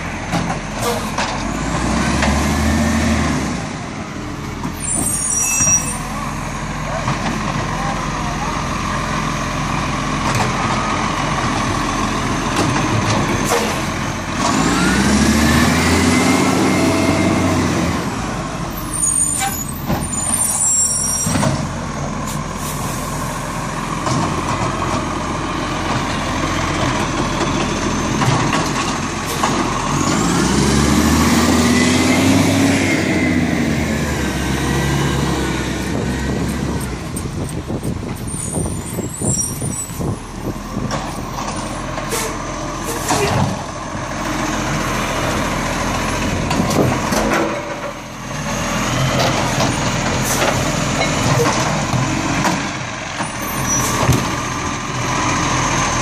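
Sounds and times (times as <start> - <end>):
garbage truck engine revving: 0.1 - 5.1, 6.4 - 22.6, 23.2 - 56.0.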